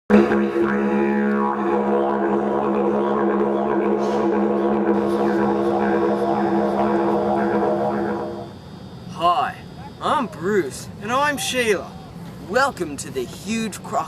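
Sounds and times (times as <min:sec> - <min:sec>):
didgeridoo drone: 0:00.1 - 0:14.0.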